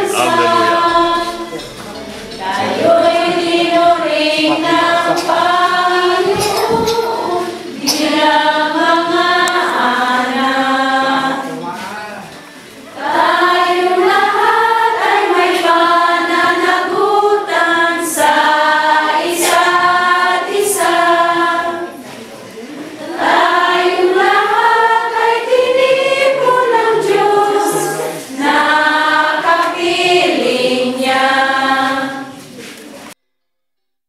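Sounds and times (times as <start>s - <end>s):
congregation singing a hymn: 0.0s - 33.2s.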